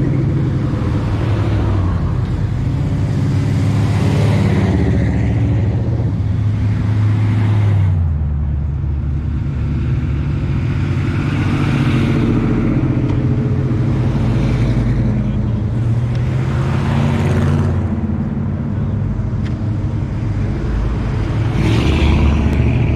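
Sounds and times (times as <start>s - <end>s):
pickup truck engines rumbling: 0.0s - 22.9s.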